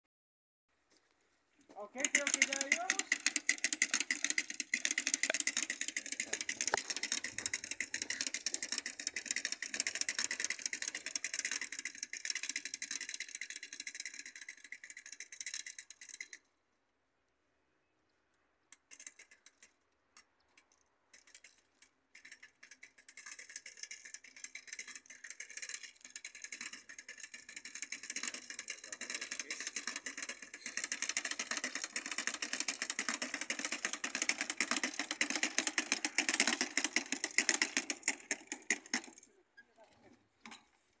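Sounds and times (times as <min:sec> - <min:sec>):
planter drum rattling and clicking: 0:01.8 - 0:16.4, 0:18.8 - 0:19.8, 0:20.5 - 0:39.3.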